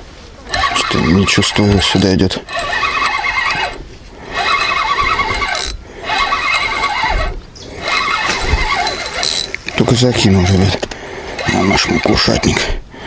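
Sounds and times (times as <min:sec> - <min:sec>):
fishing reel gears whirring: 0:00.5 - 0:12.6.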